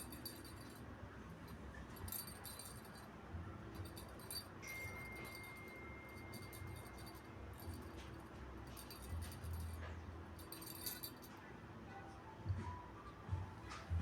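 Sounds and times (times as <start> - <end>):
light metallic jingling: 0.0 - 11.5.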